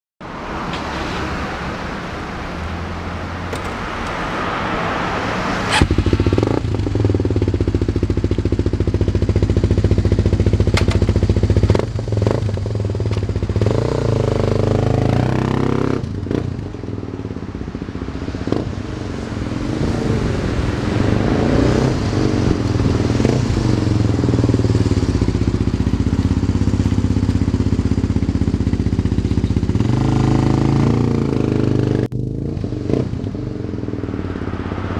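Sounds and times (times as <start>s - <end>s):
motorcycle engine revving: 5.6s - 34.9s.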